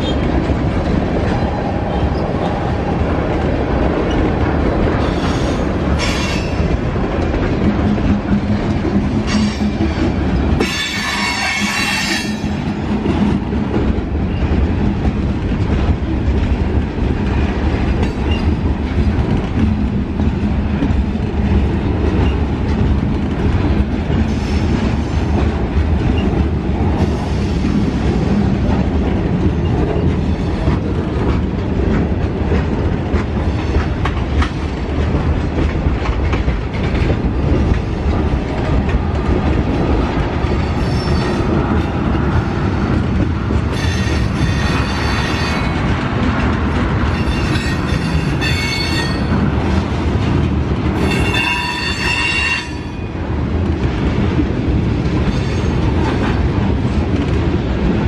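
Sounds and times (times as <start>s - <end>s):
train wheels clacking over rail joints: 0.0s - 58.0s.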